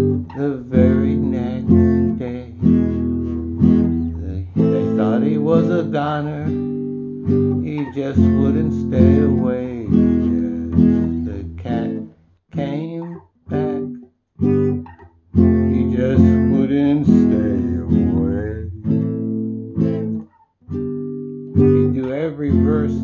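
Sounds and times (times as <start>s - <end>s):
classical guitar strumming chords: 0.0s - 23.0s.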